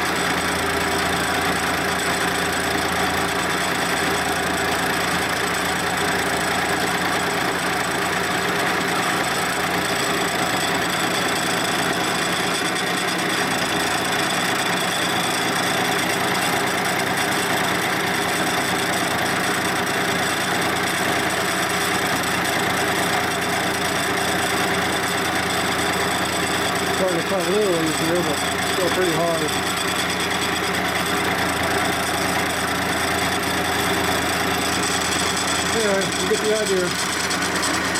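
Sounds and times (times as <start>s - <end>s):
milling machine cutting steel: 0.1s - 37.9s.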